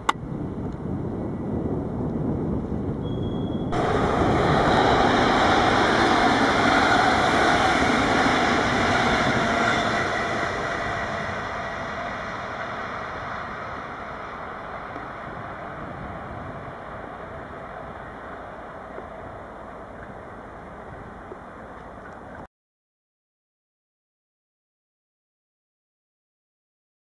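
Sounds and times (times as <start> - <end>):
train passing with rushing rumble: 0.1 - 22.5.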